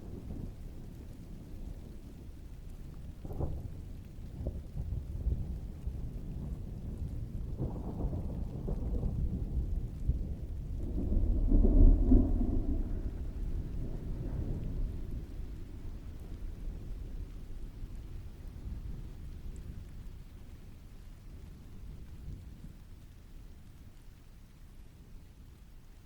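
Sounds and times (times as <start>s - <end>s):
distant thunder rumbling: 0.0s - 23.0s
steady rainfall: 0.0s - 26.0s.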